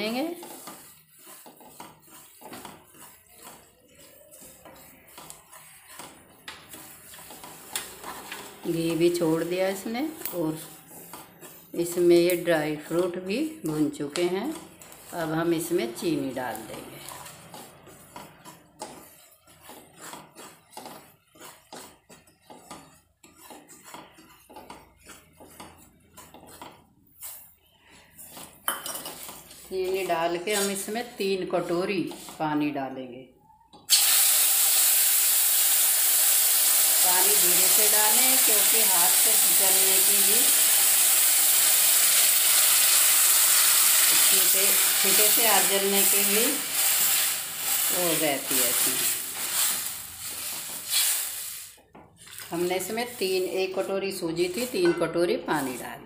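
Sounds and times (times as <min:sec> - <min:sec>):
spatula scraping steel pan: 0:00.0 - 0:32.7, 0:37.1 - 0:56.0.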